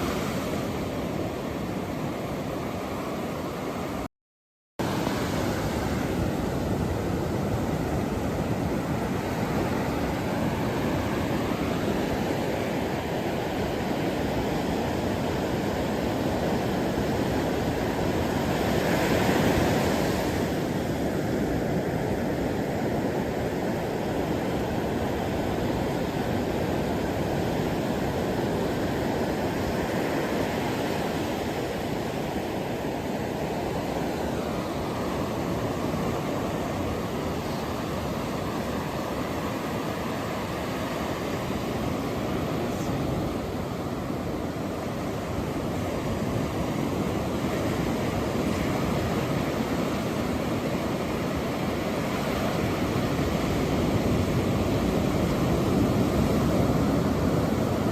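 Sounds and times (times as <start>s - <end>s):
ocean waves washing on shore: 0.0s - 4.1s, 4.8s - 57.9s.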